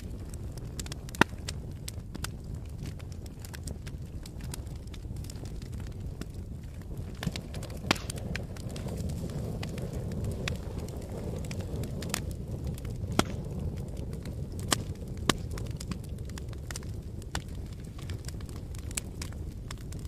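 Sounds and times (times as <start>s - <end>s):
low rumble of flames: 0.0s - 20.0s
sharp pops from burning logs: 0.0s - 20.0s
wood fire crackling: 0.0s - 20.0s.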